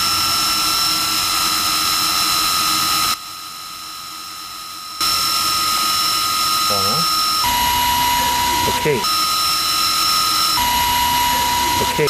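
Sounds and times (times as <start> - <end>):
electric motor high-pitched whine: 0.0 - 12.0.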